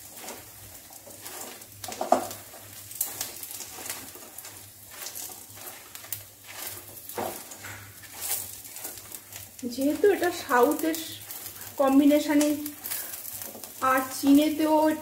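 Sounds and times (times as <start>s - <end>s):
spatula scraping frying chicken: 0.0s - 15.0s.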